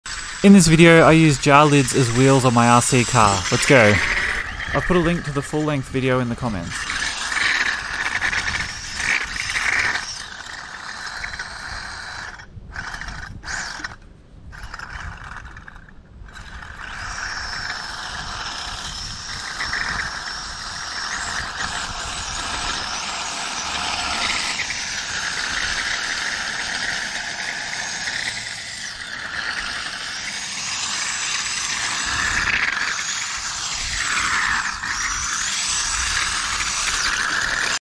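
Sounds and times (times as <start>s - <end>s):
electric motor whining: 0.0s - 14.0s, 16.3s - 37.8s.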